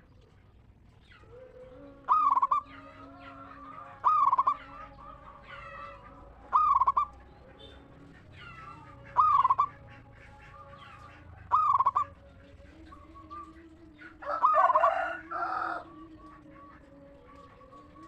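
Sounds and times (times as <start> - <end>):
dove cooing: 0.0 - 18.0
long bird call like crowing: 0.0 - 18.0.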